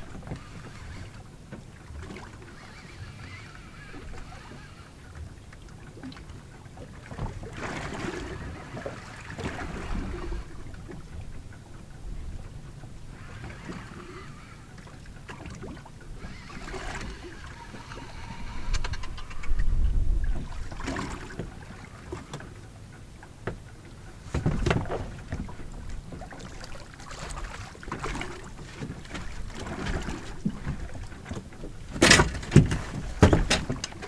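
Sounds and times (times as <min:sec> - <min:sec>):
knocks and clatters on boat: 0:00.0 - 0:34.0
wind and sea noise: 0:00.0 - 0:34.0.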